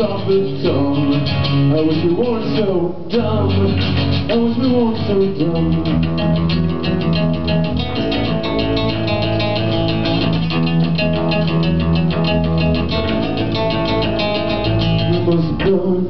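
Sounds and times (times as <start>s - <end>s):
low bass notes: 0.0s - 16.0s
strummed guitar: 0.0s - 16.0s.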